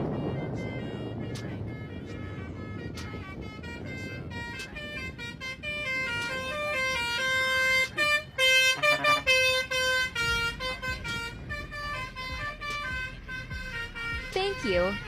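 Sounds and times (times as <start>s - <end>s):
truck horn playing a tune: 0.0s - 15.0s.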